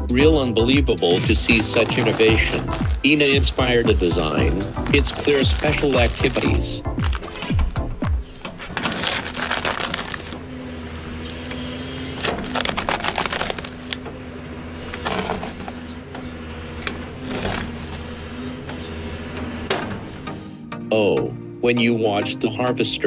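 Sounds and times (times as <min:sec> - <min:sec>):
loud bursts of machine noise: 0:00.0 - 0:20.6
forestry machine engine hum: 0:00.0 - 0:20.7.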